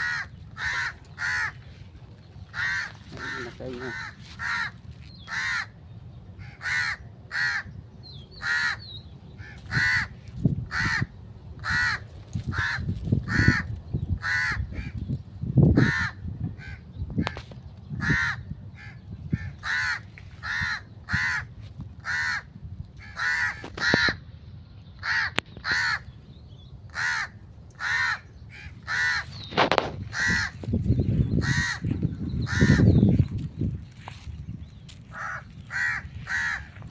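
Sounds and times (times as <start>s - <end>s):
birds giving harsh calls: 0.0s - 36.9s.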